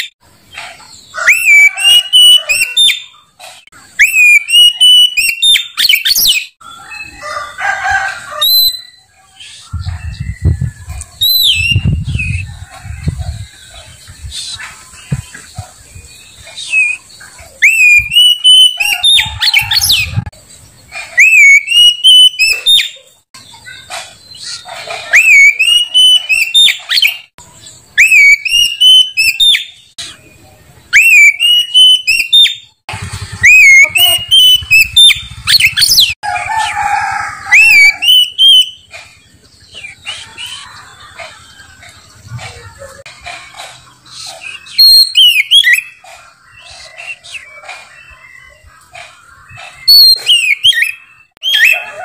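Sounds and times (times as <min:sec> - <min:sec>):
magpie-robin singing: 0:00.0 - 0:07.2, 0:08.4 - 0:36.2, 0:37.5 - 0:51.8.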